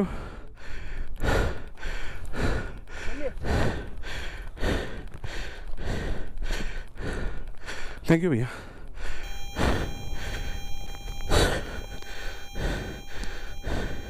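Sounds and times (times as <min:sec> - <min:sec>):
heavy rapid breathing: 0:00.0 - 0:14.0.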